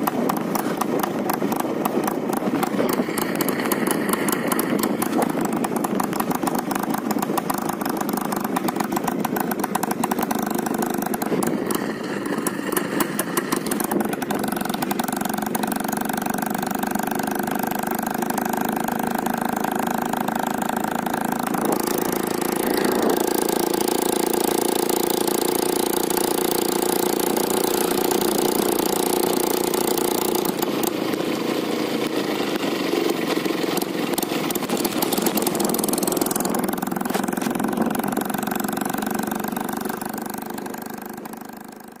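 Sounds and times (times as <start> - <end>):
two-stroke motorcycle engine: 0.0 - 42.0.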